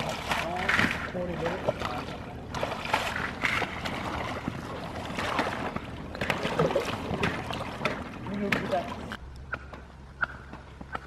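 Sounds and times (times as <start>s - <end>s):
splashing through icy water: 0.0s - 9.2s.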